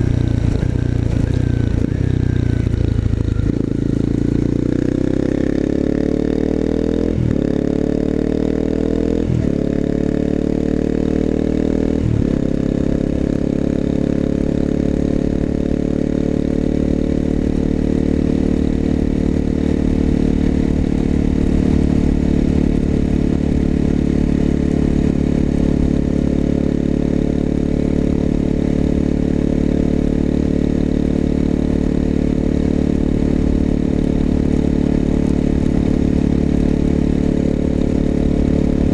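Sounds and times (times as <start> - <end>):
motorcycle exhaust accelerating: 0.0 - 38.9.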